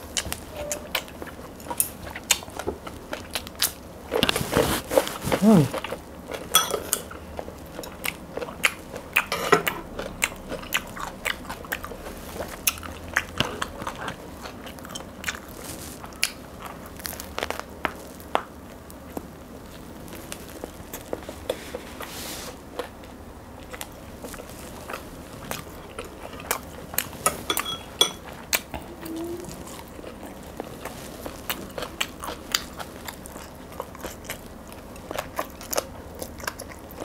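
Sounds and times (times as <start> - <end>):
crusty bread crunching while chewed: 0.0 - 27.6, 28.2 - 37.0.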